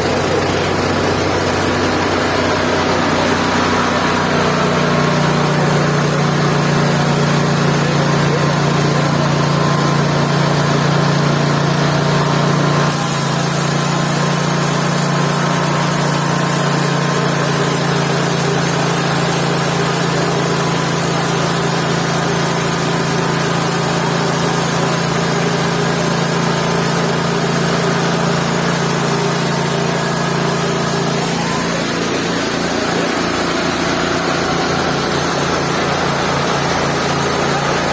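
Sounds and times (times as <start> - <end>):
band sawmill running: 0.0 - 37.9.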